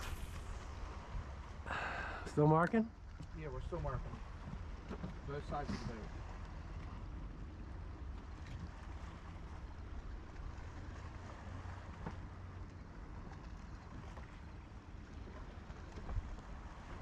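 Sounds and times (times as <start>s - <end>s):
wind rumbling on microphone: 0.0s - 2.3s, 3.0s - 17.0s
water lapping at boat hull: 0.0s - 17.0s.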